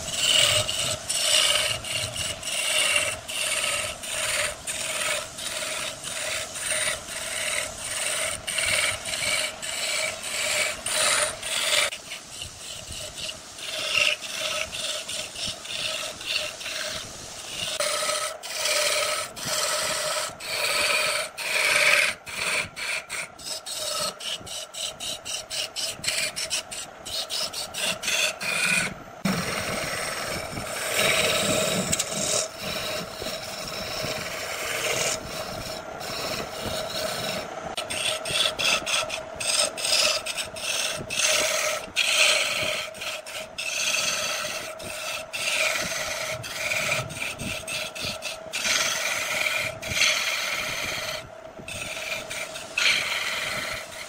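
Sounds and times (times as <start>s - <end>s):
lathe humming: 0.0s - 54.0s
tool scraping spinning wood: 0.0s - 54.0s.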